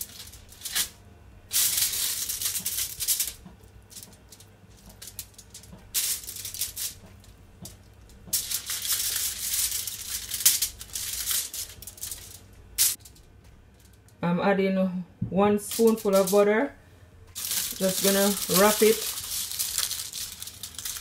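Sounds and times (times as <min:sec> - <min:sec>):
aluminium foil crinkling: 0:00.0 - 0:14.1, 0:15.7 - 0:16.4, 0:17.3 - 0:21.0.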